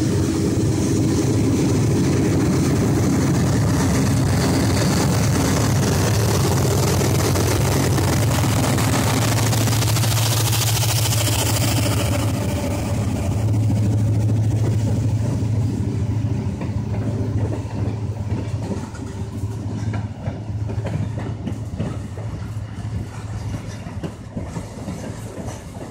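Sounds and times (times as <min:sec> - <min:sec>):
diesel locomotive engine drone: 0:00.0 - 0:25.9
train wheels clacking on rail joints: 0:00.0 - 0:25.9.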